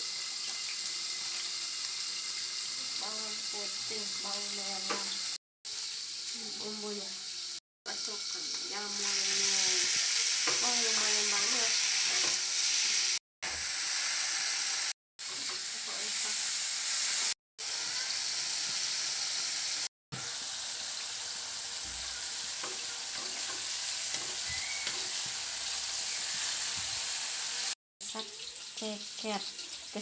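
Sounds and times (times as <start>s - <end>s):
mushrooms sizzling in a pan: 0.0s - 30.0s.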